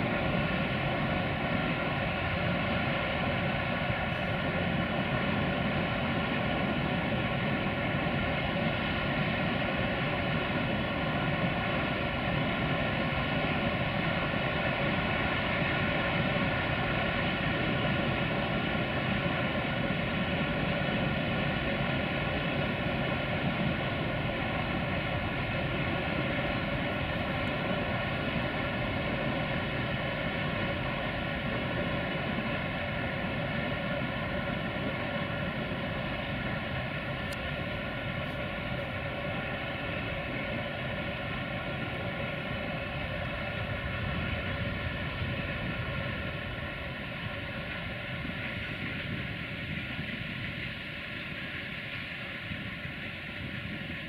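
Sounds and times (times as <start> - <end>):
distant freight train roar: 0.0 - 54.0.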